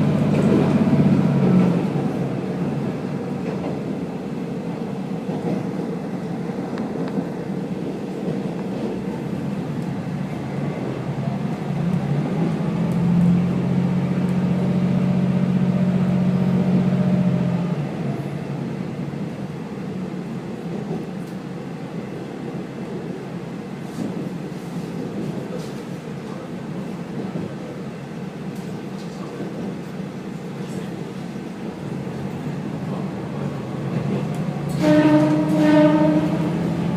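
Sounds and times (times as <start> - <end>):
railcar wheels rumbling: 0.0 - 36.9.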